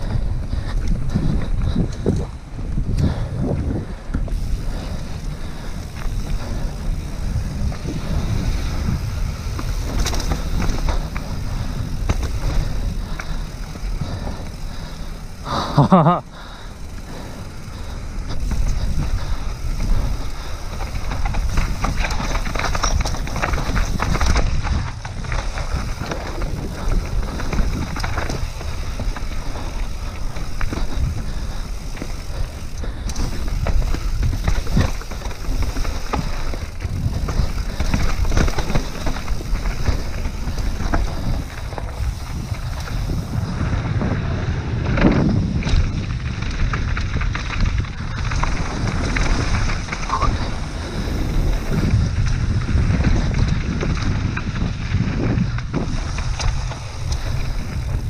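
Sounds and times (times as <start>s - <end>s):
bike chain and frame rattling: 0.0s - 58.0s
tyres rolling over dirt and rocks: 0.0s - 58.0s
wind rushing over microphone: 0.0s - 58.0s.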